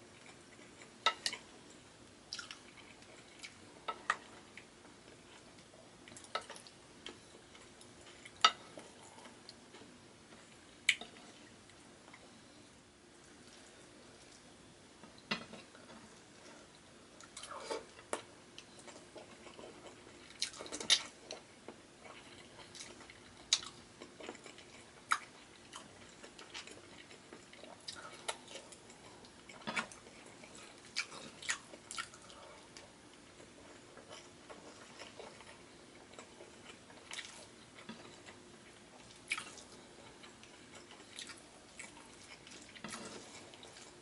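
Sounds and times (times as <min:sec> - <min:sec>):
person chewing food: 0:00.1 - 0:12.4, 0:13.2 - 0:44.0.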